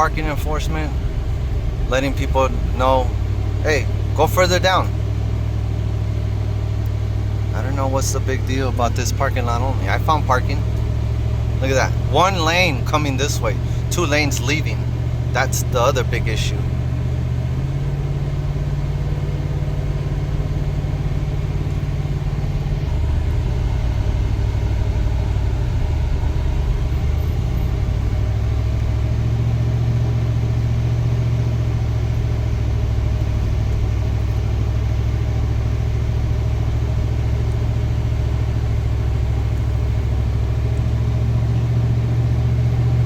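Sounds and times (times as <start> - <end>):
car engine and road drone: 0.0 - 43.0.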